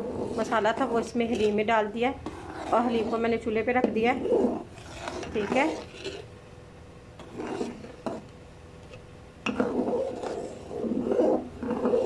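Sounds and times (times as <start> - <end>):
spoon scraping metal pot: 0.0 - 6.3, 7.2 - 8.3, 9.5 - 12.0.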